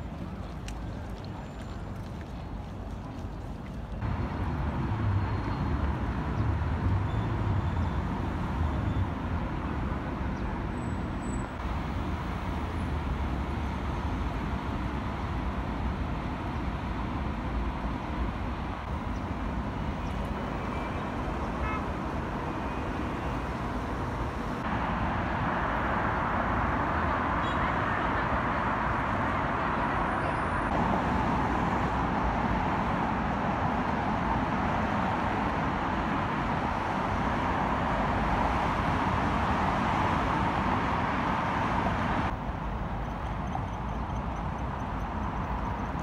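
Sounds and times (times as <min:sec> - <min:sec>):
road traffic rumble: 0:00.0 - 0:46.0.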